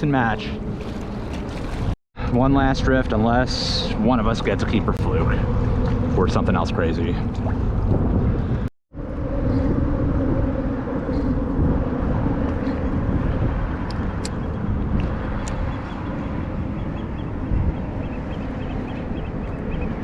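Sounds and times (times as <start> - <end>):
wind rumble on microphone: 0.0 - 20.0
faint engine hum: 0.1 - 20.0.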